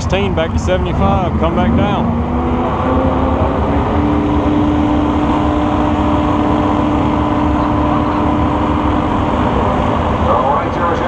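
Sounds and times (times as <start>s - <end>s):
race car engine running rough: 0.0s - 11.0s.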